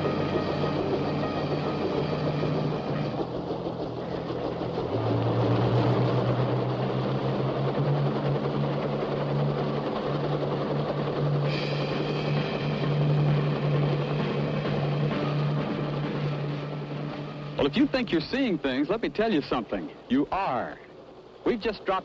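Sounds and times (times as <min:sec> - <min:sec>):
helicopter lifting off: 0:00.0 - 0:22.0.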